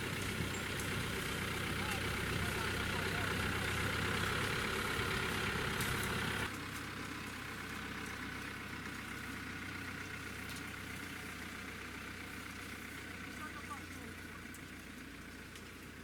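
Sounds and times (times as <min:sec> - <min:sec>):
engine humming at idle: 0:00.0 - 0:16.0.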